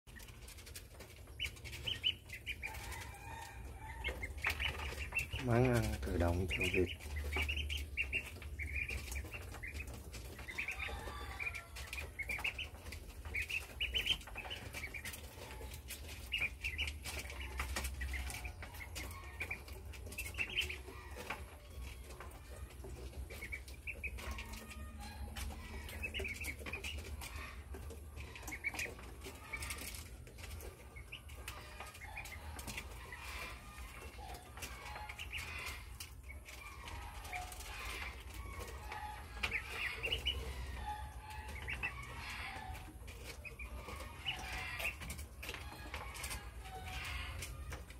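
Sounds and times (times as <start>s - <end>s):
ducklings peeping: 0.1s - 47.9s.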